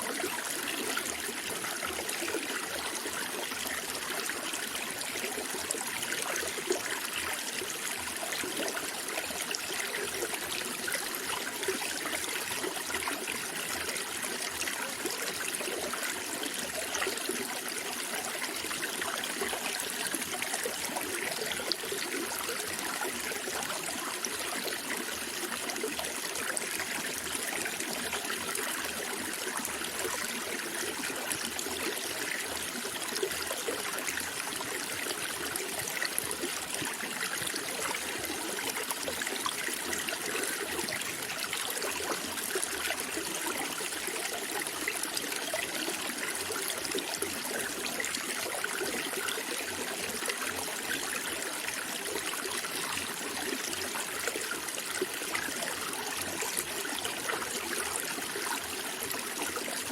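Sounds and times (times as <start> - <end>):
water trickling and babbling: 0.0 - 59.9.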